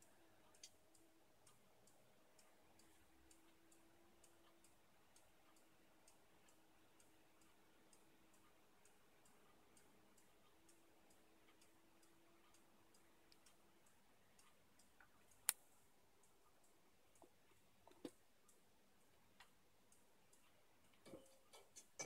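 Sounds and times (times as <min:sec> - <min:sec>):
faint steady hum: 0:00.0 - 0:22.0
faint ticking: 0:00.0 - 0:22.0.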